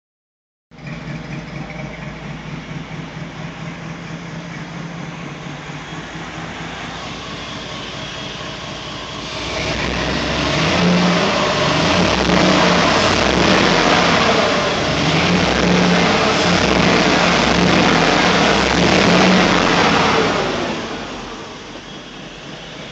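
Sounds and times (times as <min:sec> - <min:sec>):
misfiring car engine: 0:00.7 - 0:22.9.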